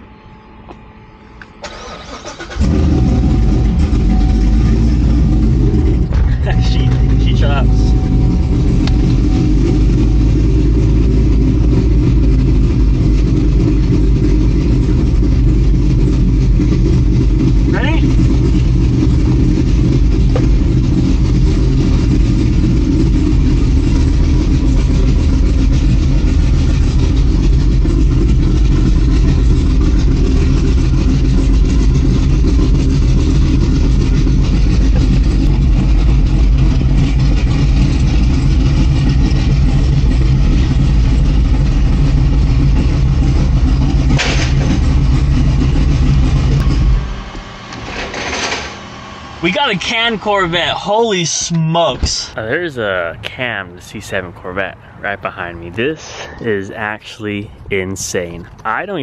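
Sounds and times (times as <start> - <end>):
car engine idling lumpily: 0.3 - 48.2, 48.9 - 59.0.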